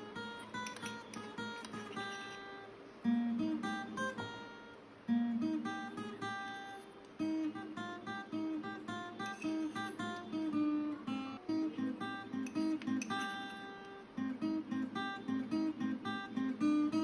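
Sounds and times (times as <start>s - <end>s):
plucked acoustic guitar melody: 0.0s - 17.0s.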